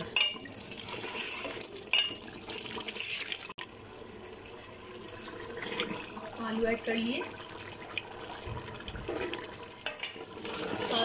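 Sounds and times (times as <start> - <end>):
curry sizzling in a pot: 0.0 - 11.0.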